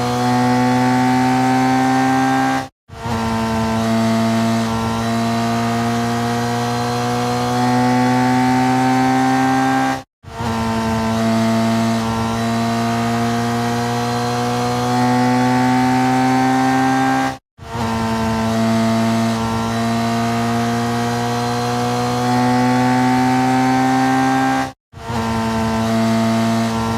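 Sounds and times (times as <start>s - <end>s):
racing motorcycle engine revving: 0.0s - 26.9s.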